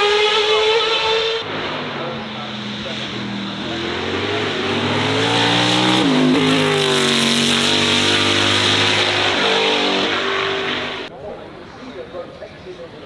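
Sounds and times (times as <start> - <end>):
racing car engine accelerating: 0.0 - 11.1.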